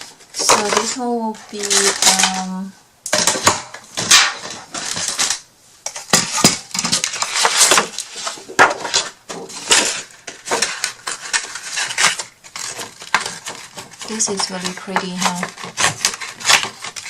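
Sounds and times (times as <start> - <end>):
paper rustling: 0.0 - 17.0
small hard objects clattering: 0.1 - 17.0.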